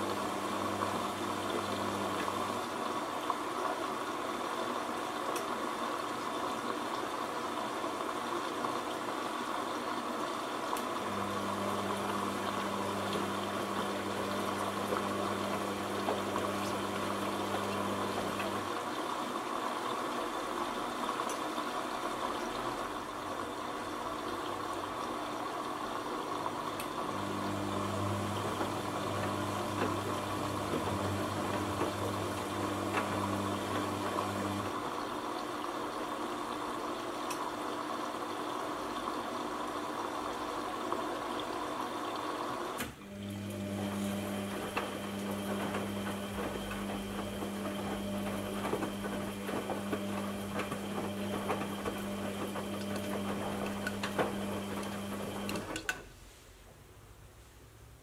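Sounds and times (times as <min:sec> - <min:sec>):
washing machine motor hum: 0:00.0 - 0:56.1.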